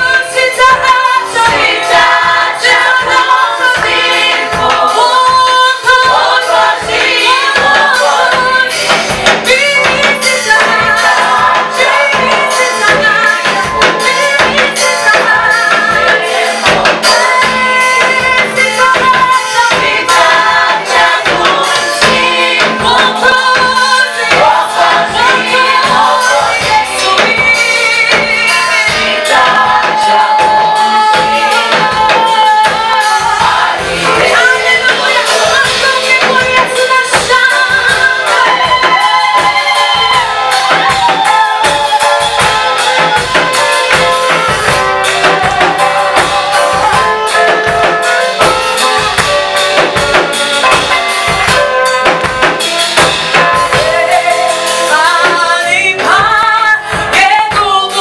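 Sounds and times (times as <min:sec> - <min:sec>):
drum kit beat: 0:00.0 - 0:58.0
singers carrying a melody: 0:00.0 - 0:58.0.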